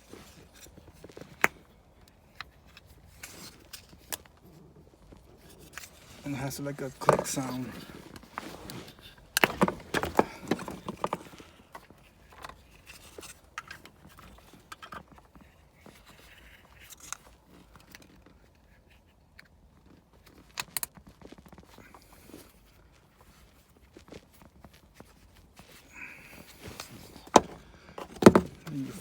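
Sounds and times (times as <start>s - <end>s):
light ticks and rubbing: 0.0s - 29.0s.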